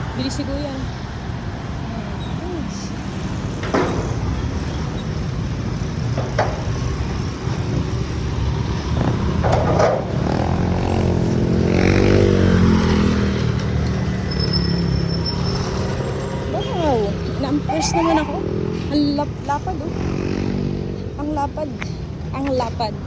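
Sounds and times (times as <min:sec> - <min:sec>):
vehicles passing on road: 0:00.0 - 0:23.0.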